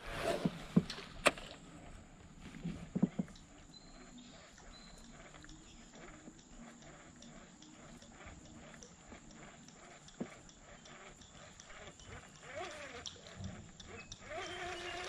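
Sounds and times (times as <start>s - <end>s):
steady high-pitched whine: 0.0s - 15.0s
knocks and clicks of fishing reel: 2.9s - 15.0s.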